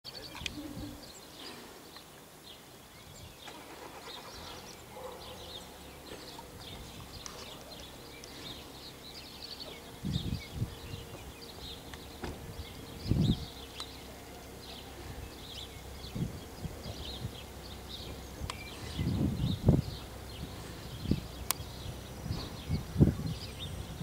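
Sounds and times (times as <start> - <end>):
songbirds chirping: 0.0 - 24.0
faint low train hum: 0.1 - 24.0.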